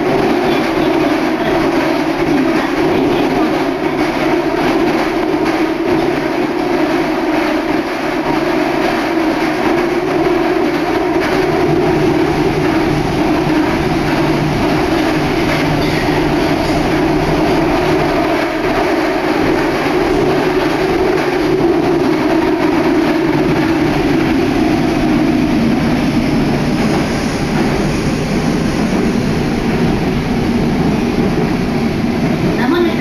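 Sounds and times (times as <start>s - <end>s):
train rumbling in tunnel: 0.0s - 33.0s.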